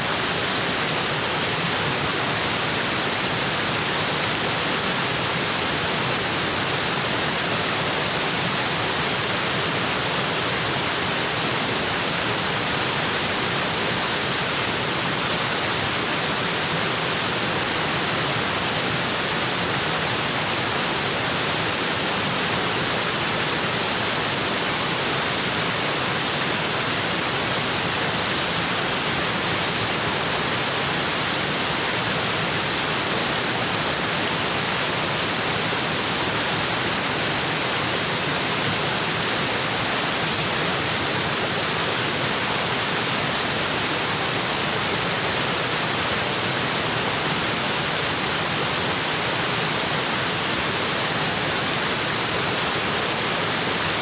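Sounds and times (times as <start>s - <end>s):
waterfall onto rocks: 0.0s - 54.0s.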